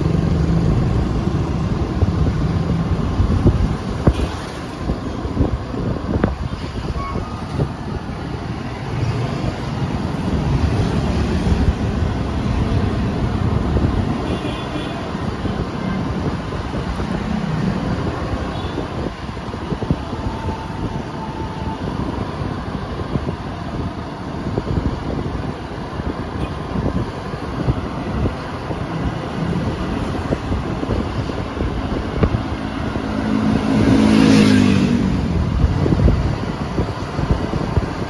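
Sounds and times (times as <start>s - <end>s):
road and traffic noise: 0.0s - 38.0s
wind rumble on microphone: 0.0s - 38.0s.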